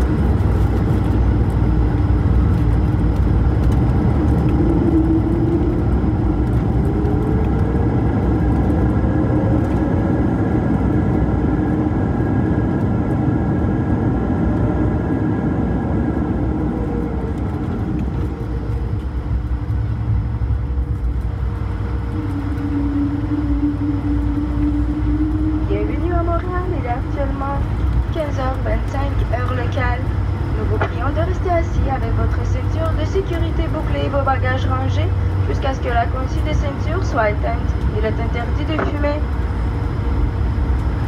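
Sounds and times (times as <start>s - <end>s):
airplane cabin rumble: 0.0s - 41.0s
jet engine whine: 0.0s - 41.0s.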